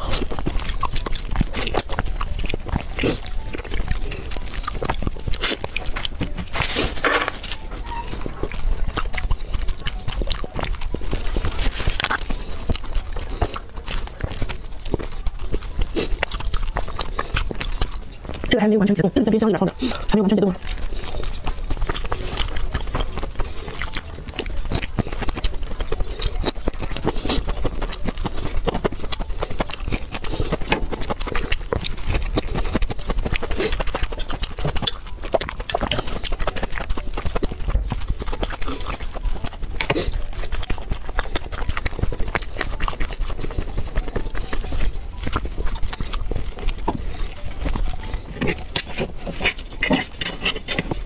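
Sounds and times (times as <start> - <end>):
close chewing and smacking: 0.0 - 51.0.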